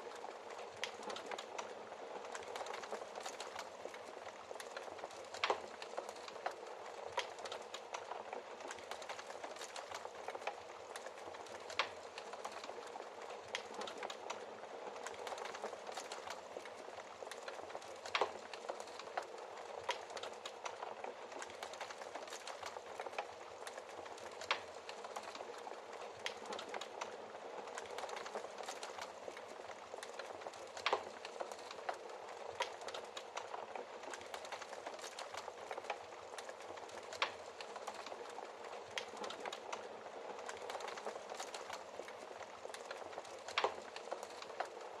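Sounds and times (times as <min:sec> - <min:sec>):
fireplace fire crackling: 0:00.0 - 0:45.0.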